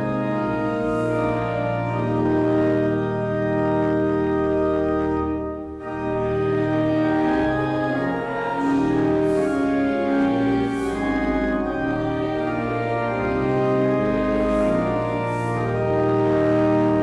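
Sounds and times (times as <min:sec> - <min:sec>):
church organ playing a hymn: 0:00.0 - 0:17.0.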